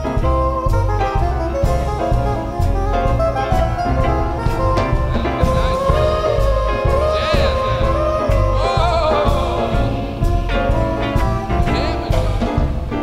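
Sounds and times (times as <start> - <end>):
swing jazz band playing: 0.0 - 13.0.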